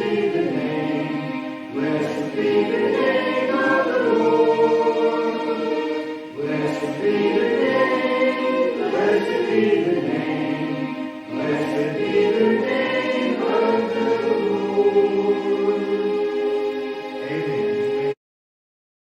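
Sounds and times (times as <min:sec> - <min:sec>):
congregation singing a hymn: 0:00.0 - 0:18.2
instrumental accompaniment: 0:00.0 - 0:18.2.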